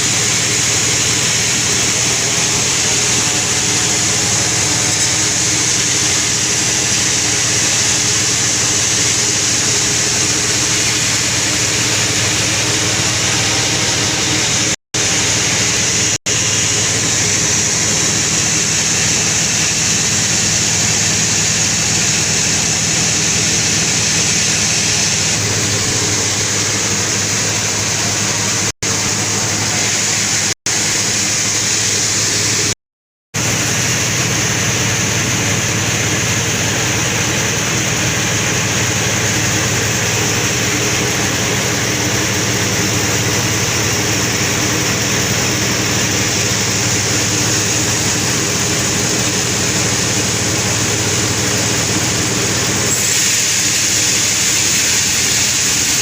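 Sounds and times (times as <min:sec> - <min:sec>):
loud hiss of sawing: 0:00.0 - 0:32.8, 0:33.4 - 0:56.0
sawmill saw cutting log: 0:00.0 - 0:32.8, 0:33.4 - 0:56.0.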